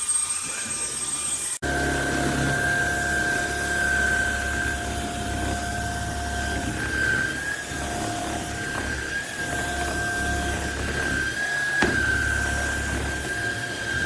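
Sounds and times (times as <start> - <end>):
vacuum cleaner motor whining: 0.0 - 14.0.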